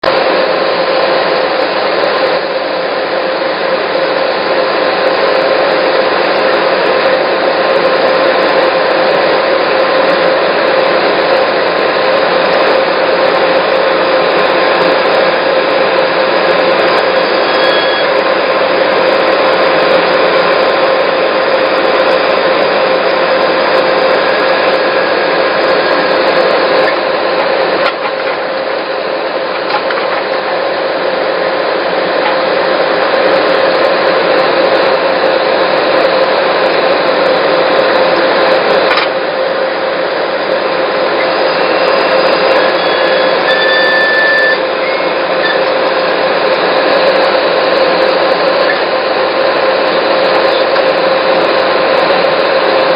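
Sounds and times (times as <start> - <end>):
loader engine and hydraulics whining: 0.0 - 52.9.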